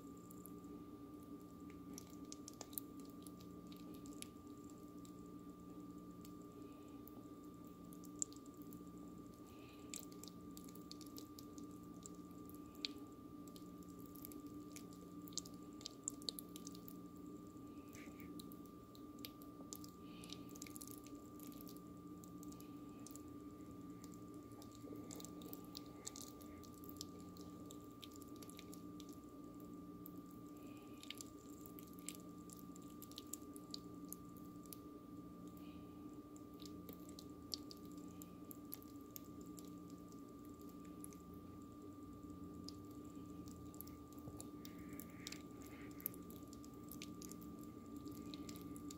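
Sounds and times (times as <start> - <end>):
faint clicks and crackles: 0.0 - 48.9
steady electrical hum: 0.0 - 48.9.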